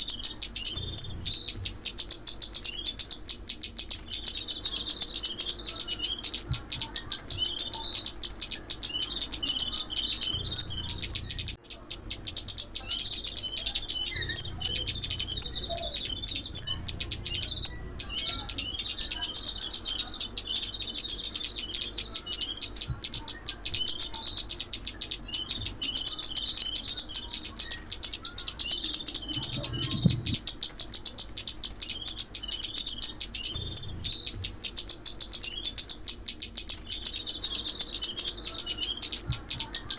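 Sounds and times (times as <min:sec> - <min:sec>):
sunbird twittering and chirping: 0:00.0 - 0:39.9.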